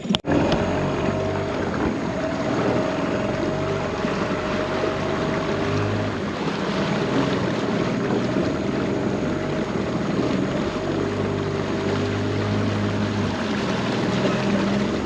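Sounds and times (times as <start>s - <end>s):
boat engine humming: 0.0s - 15.0s
water rushing: 0.0s - 15.0s
wind: 0.0s - 15.0s.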